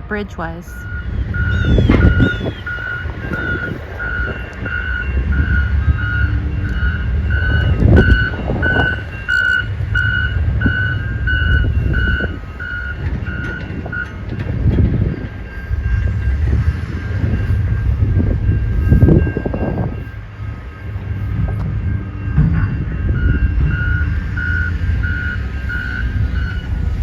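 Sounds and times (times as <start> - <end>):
reversing alarm beeping: 0.1 - 27.0.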